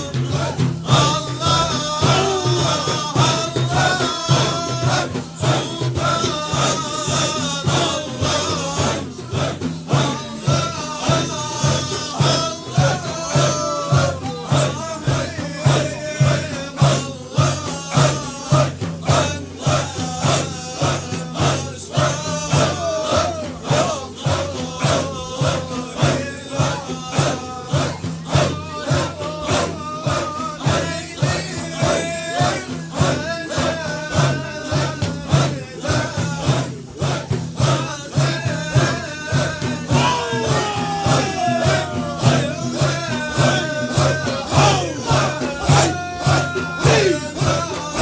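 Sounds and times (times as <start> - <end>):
group of voices chanting: 0.0 - 48.0.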